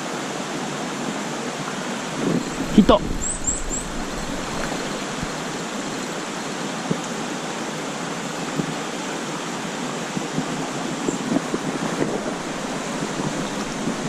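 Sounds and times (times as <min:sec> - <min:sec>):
stream running over rocks: 0:00.0 - 0:14.0.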